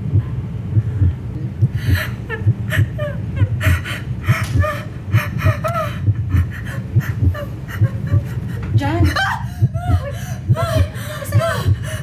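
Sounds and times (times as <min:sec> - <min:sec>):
low regular thumping: 0:00.0 - 0:12.0
woman sobbing: 0:01.8 - 0:12.0.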